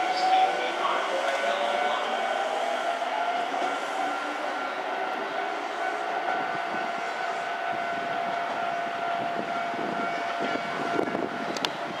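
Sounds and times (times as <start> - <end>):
train running down track: 0.0 - 12.0.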